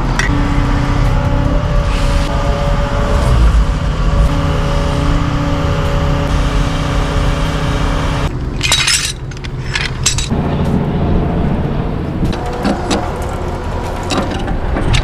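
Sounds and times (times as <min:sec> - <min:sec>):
diesel engine running: 0:00.0 - 0:15.0
hydraulic whine: 0:00.0 - 0:15.0.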